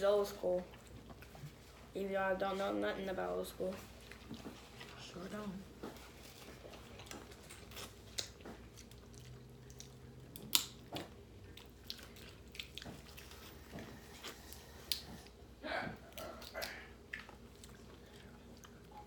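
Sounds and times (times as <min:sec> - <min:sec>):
people chewing: 0:00.6 - 0:01.9, 0:03.6 - 0:19.0.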